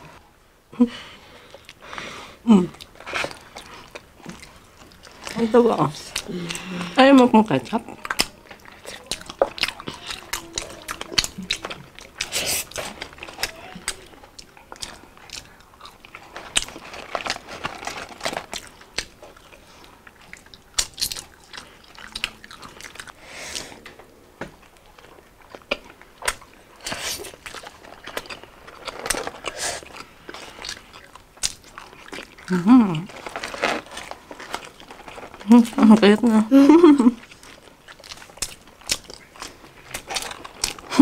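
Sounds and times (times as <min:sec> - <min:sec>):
crunchy chewing: 0:02.7 - 0:41.0.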